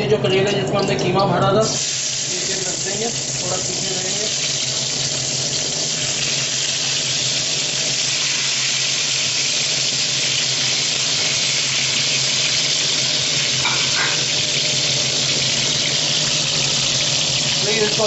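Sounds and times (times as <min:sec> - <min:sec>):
food sizzling in oil: 0:01.2 - 0:18.0.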